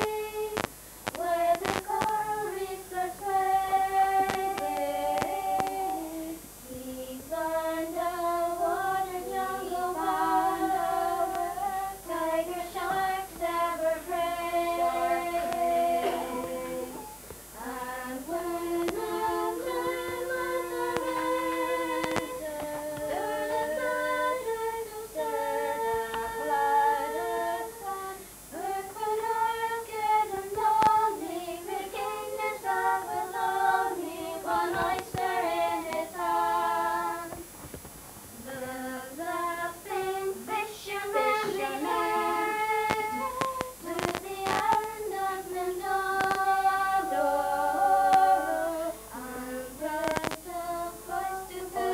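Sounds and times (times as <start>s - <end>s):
girls singing unaccompanied: 0.0s - 37.6s, 38.3s - 51.9s.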